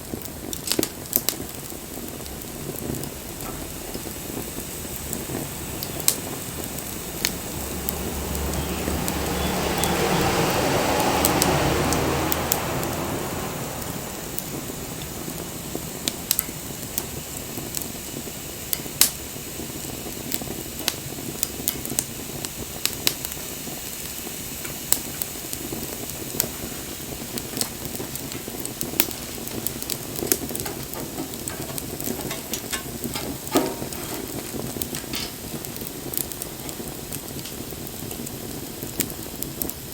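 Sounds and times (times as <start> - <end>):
bonfire crackling and popping: 0.0 - 39.9
rushing noise with low hum: 0.0 - 39.9.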